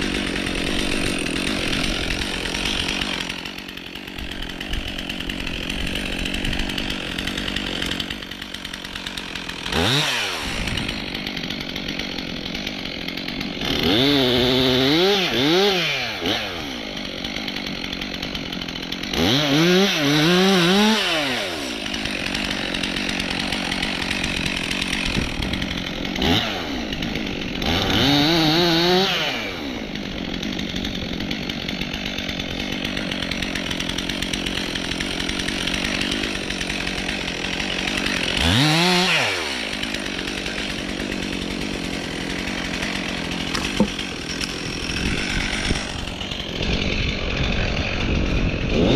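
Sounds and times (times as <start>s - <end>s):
chainsaw idling and revving: 0.0s - 48.9s.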